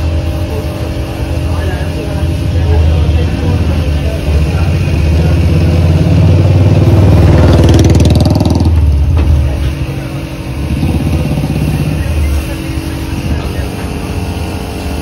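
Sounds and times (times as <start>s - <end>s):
spray gun hiss with flutter: 0.0s - 6.0s, 9.0s - 15.0s
air compressor drone: 0.0s - 15.0s.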